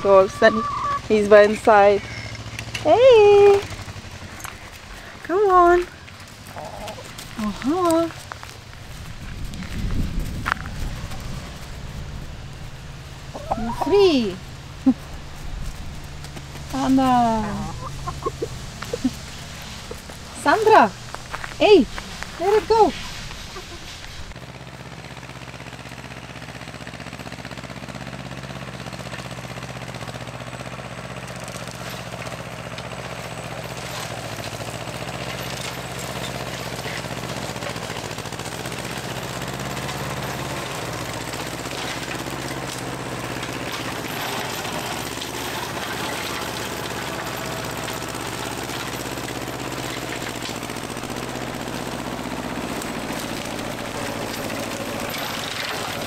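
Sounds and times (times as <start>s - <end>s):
tractor engine cutting grass: 0.0s - 56.0s.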